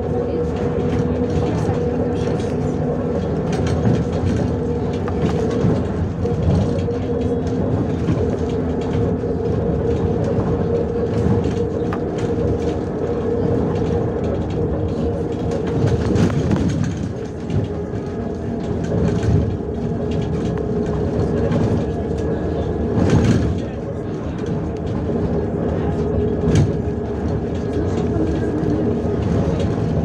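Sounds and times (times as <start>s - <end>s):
bus body rattling: 0.0s - 30.0s
bus engine drone and whine: 0.0s - 30.0s.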